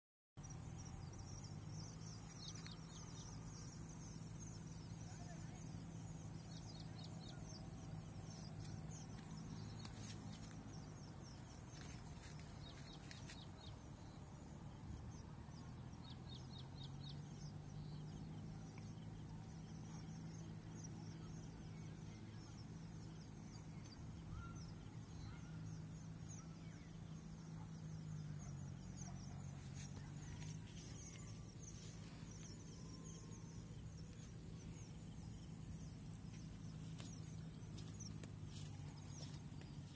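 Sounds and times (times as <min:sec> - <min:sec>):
low steady hum: 0:00.4 - 0:39.9.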